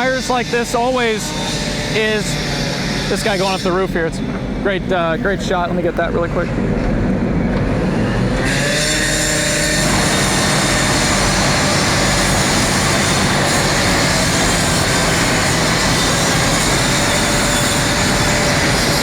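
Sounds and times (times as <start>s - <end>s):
machinery rushing noise: 0.0s - 19.0s.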